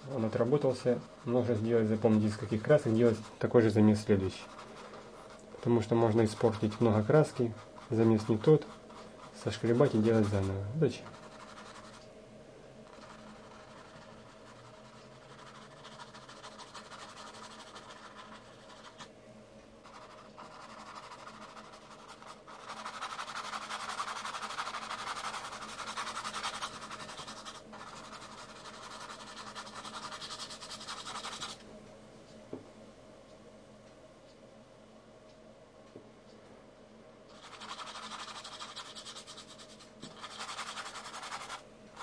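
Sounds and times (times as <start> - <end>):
paintbrush scrubbing on canvas: 0.2 - 3.5, 4.2 - 12.0, 12.9 - 19.1, 19.9 - 31.6, 37.3 - 42.0.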